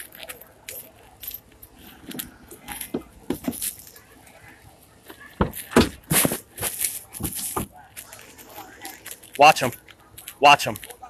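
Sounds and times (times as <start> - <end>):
keys and gear jingling: 0.0 - 11.0.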